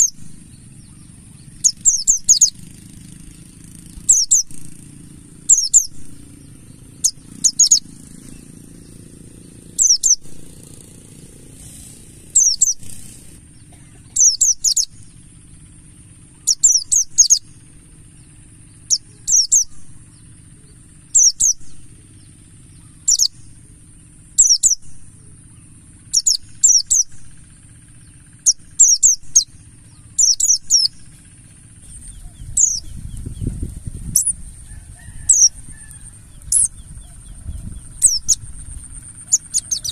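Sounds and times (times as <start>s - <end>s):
high bird chirps: 0.0s - 10.8s, 11.7s - 15.3s, 16.2s - 39.9s.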